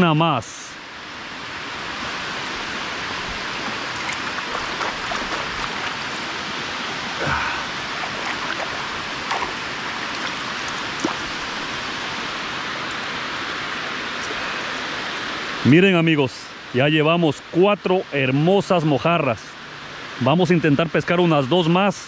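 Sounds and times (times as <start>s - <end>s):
water rushing over dam spillway: 0.0s - 22.0s.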